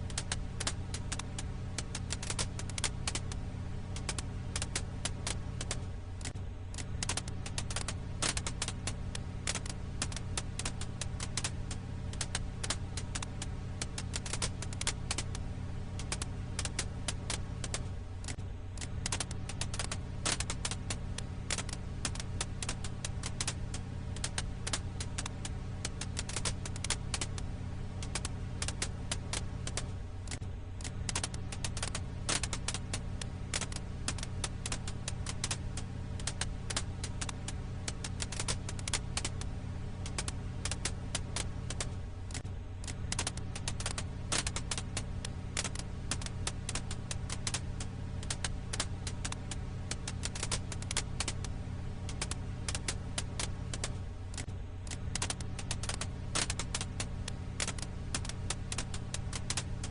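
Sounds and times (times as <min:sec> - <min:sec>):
steady low rumble: 0:00.0 - 0:59.9
wood fire crackling and popping: 0:00.0 - 0:59.9.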